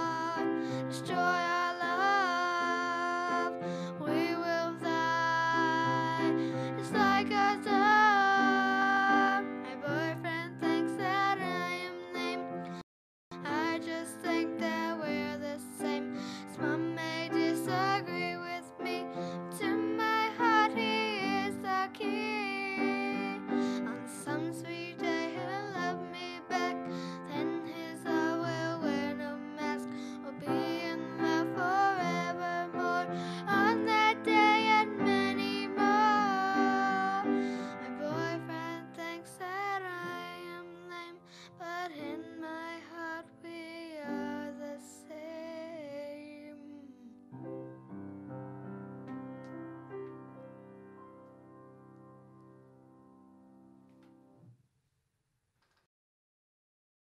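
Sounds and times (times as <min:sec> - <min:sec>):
girl singing: 0:00.0 - 0:47.3
piano accompaniment: 0:00.0 - 0:54.4.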